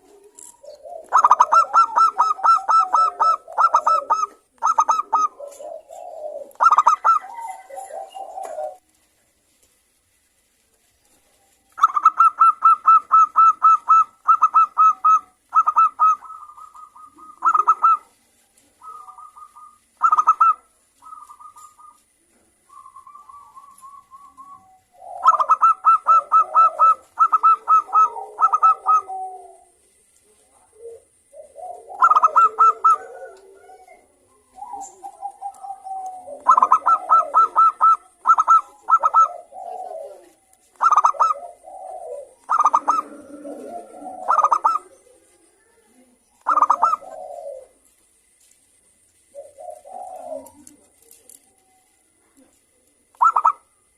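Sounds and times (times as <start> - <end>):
dove cooing staccato notes: 0.0 - 8.8, 11.7 - 29.8, 30.7 - 45.5, 46.4 - 47.9, 49.3 - 51.6, 52.2 - 53.9
lower rough cooing: 0.0 - 8.8, 11.8 - 29.8, 30.5 - 47.8, 49.3 - 53.8.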